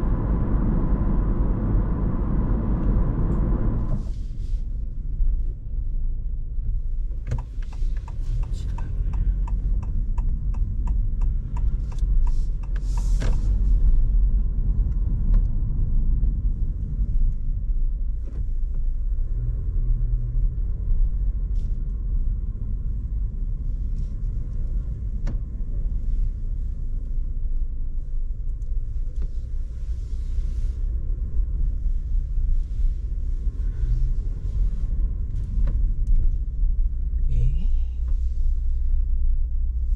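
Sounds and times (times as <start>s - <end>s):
road rumble inside car: 0.0s - 39.9s.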